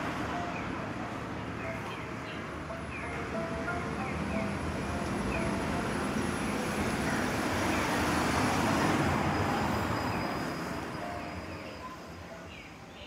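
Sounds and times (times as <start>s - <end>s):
street noise rushing: 0.0s - 13.0s.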